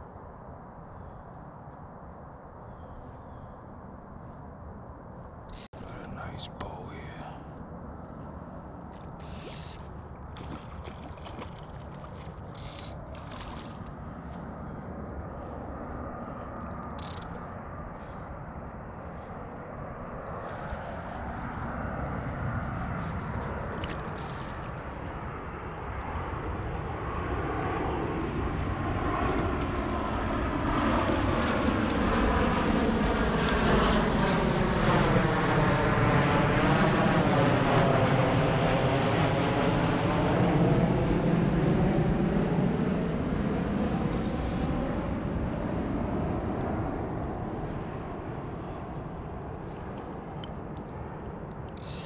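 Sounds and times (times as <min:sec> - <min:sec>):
airplane engine drone: 0:00.0 - 0:52.0.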